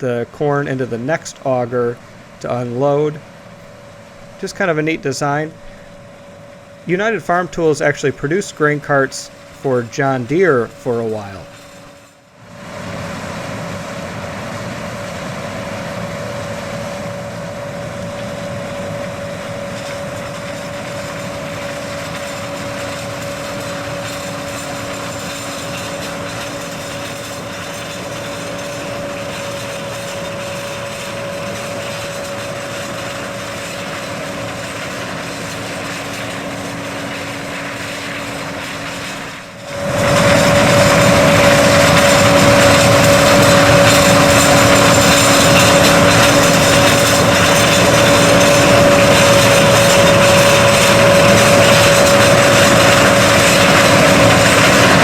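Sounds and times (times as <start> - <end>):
harvest machinery whine: 0.0 - 55.0.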